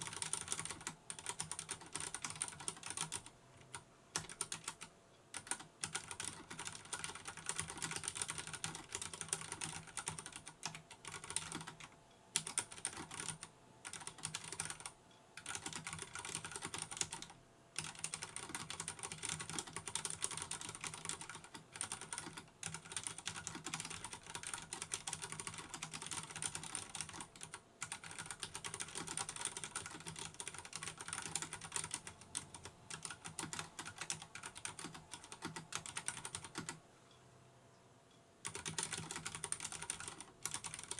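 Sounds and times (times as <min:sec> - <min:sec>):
mechanical keyboard typing: 0:00.0 - 0:36.8, 0:38.4 - 0:40.9.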